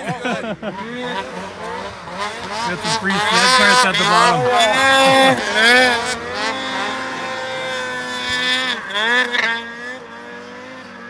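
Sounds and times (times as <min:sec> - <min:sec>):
snowmobile engine revving: 0:00.0 - 0:11.0.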